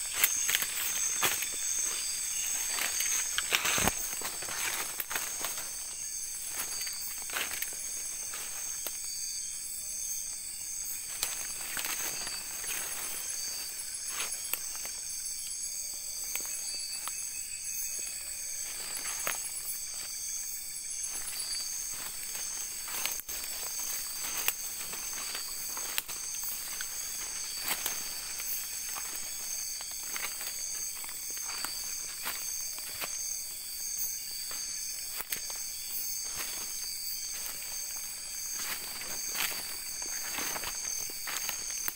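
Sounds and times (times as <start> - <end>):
footsteps in leaf litter: 0.0 - 9.2, 10.8 - 15.0, 18.6 - 20.3, 20.9 - 41.9
rustling leaf litter: 0.0 - 9.2, 11.1 - 14.9, 18.5 - 20.2, 21.0 - 33.7, 34.3 - 41.9
insect chorus trilling: 0.0 - 41.9.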